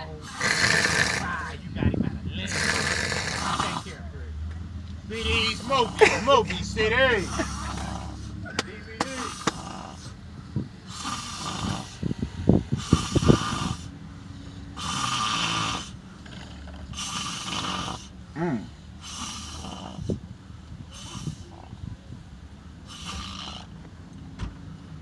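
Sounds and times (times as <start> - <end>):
man snoring: 0.0 - 4.1, 5.0 - 21.6, 22.8 - 23.8.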